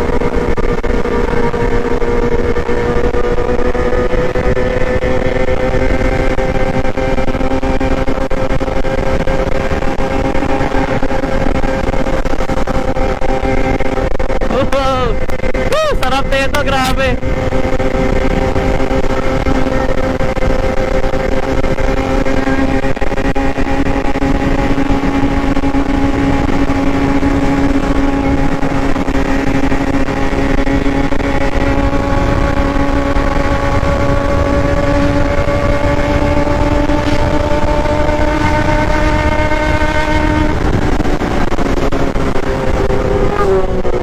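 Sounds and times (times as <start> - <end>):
road and wind noise: 0.0 - 44.0
vehicle engine running: 0.0 - 44.0.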